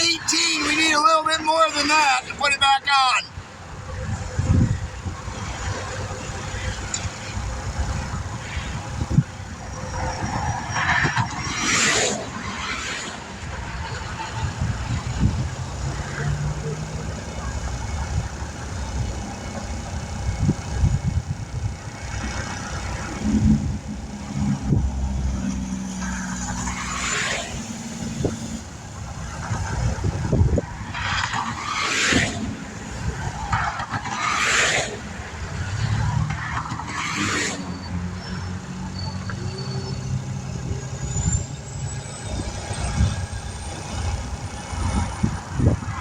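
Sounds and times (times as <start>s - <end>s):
highway traffic rumbling: 0.0s - 46.0s
vehicle tire noise: 0.0s - 46.0s.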